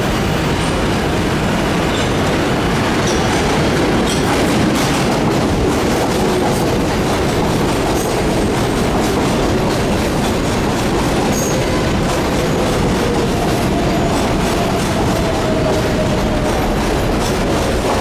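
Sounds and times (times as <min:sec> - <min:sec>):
subway train wheels clattering: 0:00.0 - 0:18.0.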